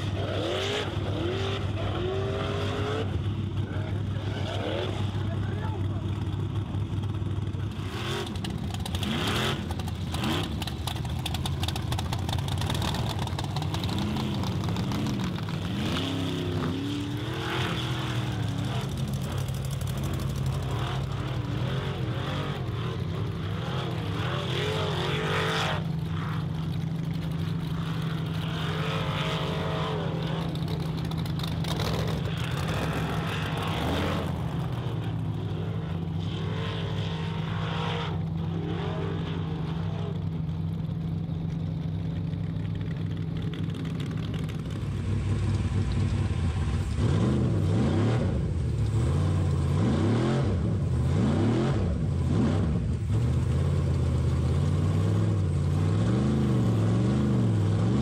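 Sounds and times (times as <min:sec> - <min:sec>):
buggy engine revving: 0:00.0 - 0:58.0.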